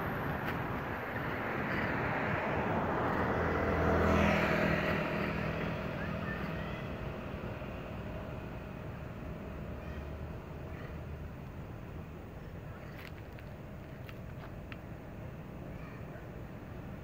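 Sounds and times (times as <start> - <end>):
vehicle passing on road: 0.0 - 15.6.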